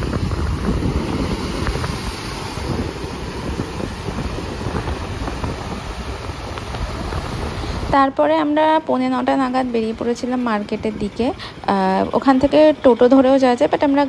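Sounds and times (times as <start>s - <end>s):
sea waves breaking: 0.0s - 14.0s
wind buffeting microphone: 0.0s - 14.0s.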